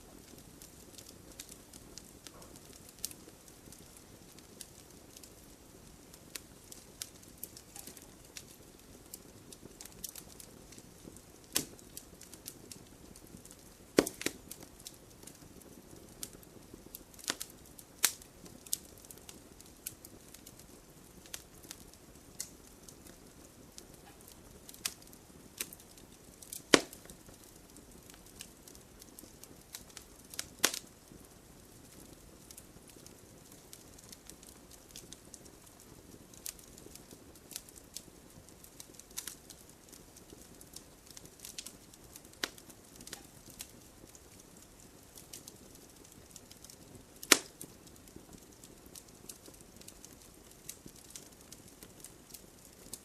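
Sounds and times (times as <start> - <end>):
campfire crackling and popping: 0.0 - 53.0
low fire hiss: 0.0 - 53.0.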